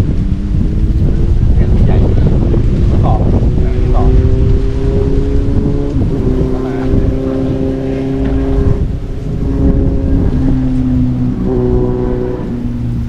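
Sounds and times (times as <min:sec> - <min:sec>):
motor hum: 0:00.0 - 0:13.0
wind on microphone: 0:00.0 - 0:13.0.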